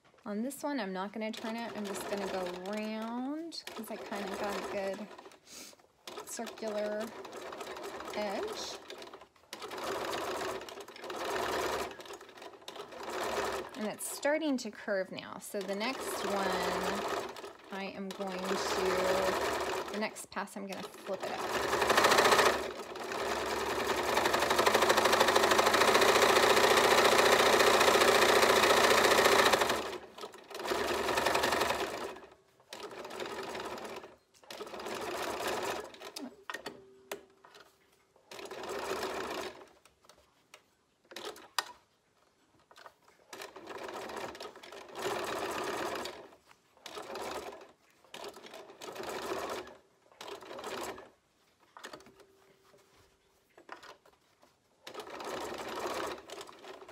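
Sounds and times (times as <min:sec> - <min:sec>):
sewing machine stitching: 0:00.8 - 0:41.8, 0:42.6 - 0:52.9, 0:53.6 - 0:56.9.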